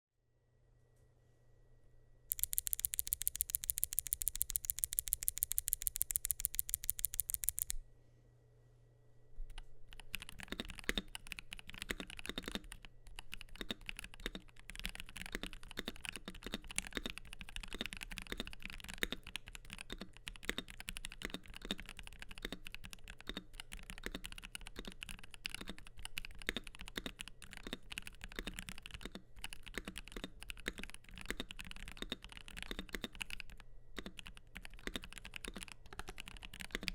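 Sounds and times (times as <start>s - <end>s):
mechanical keyboard typing: 2.3s - 7.8s, 9.5s - 36.9s.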